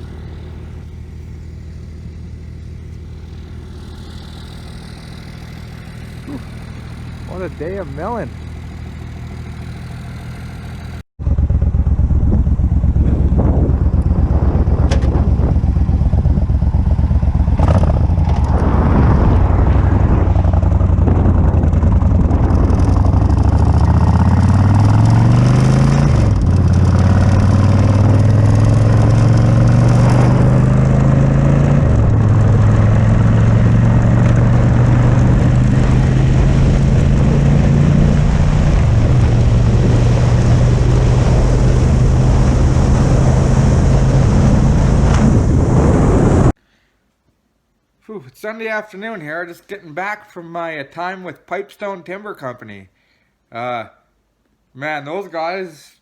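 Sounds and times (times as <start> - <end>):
engine running: 0.0 - 46.6.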